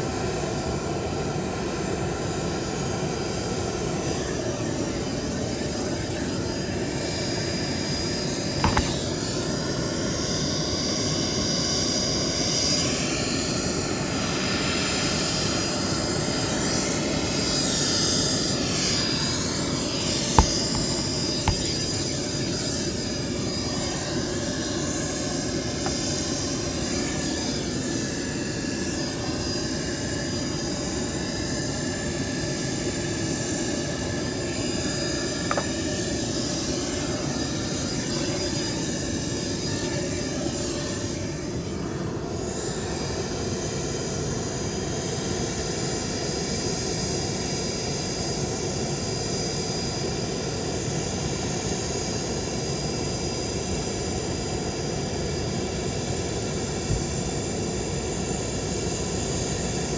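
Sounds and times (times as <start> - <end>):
jet engines running with high whine: 0.0 - 59.9.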